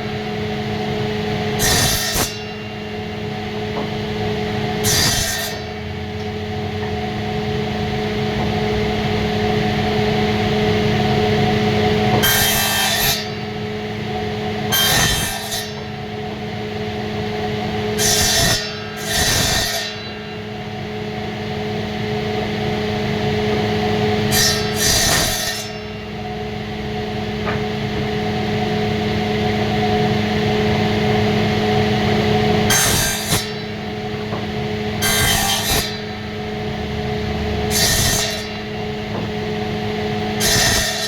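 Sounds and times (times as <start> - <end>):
woodworking machine motor hum: 0.0 - 41.0.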